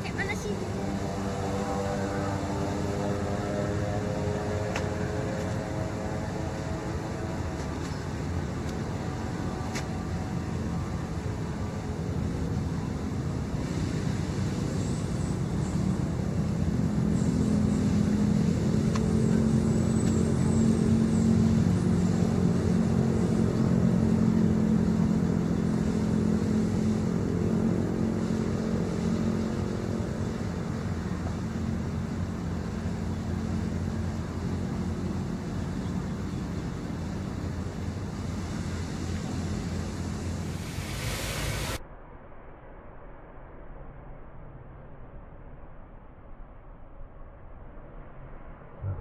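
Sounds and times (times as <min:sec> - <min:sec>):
vehicle engine humming: 0:00.0 - 0:41.8.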